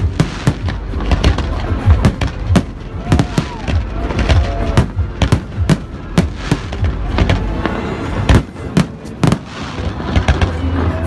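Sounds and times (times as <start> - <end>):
continuous rumble: 0.0 - 11.0.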